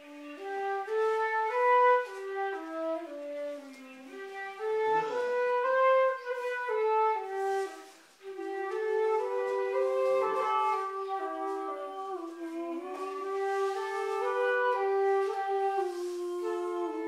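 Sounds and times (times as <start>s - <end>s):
wooden flute melody: 0.0s - 17.0s.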